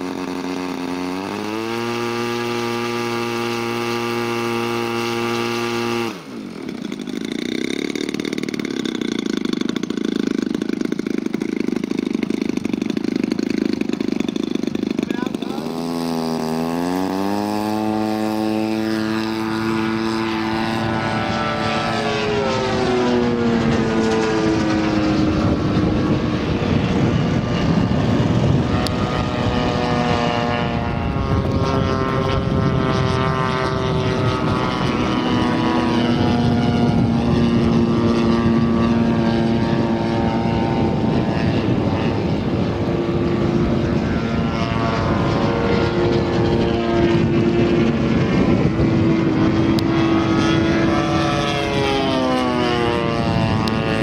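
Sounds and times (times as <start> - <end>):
model plane engine in flight: 0.0 - 54.0.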